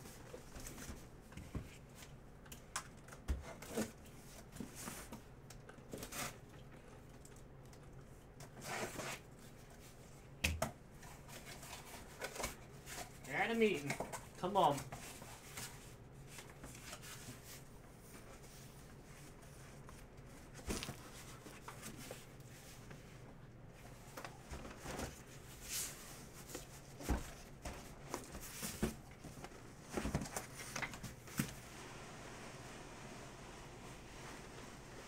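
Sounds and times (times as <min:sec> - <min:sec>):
faint room hum: 0:00.0 - 0:35.0.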